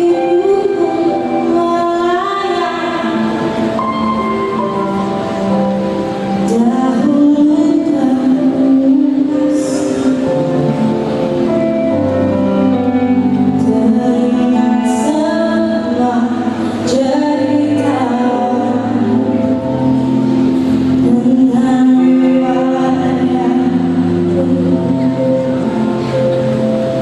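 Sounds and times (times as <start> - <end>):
music with singing: 0.0 - 27.0.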